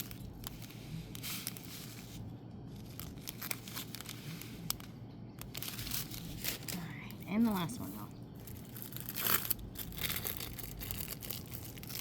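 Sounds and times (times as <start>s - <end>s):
plastic packaging crinkling: 0.0s - 7.7s, 8.4s - 12.0s.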